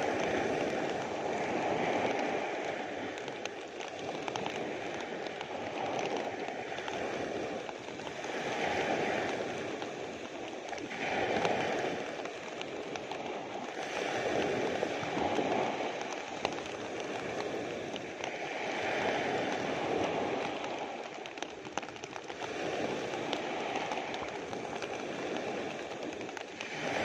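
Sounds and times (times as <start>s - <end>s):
small ocean waves breaking: 0.0s - 27.0s
steady rain: 0.0s - 27.0s.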